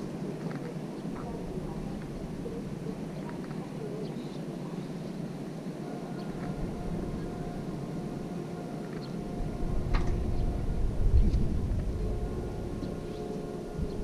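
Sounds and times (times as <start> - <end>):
faint hum: 0.0 - 14.0
low outdoor rumble: 0.0 - 14.0
wind buffeting microphone: 0.0 - 14.0.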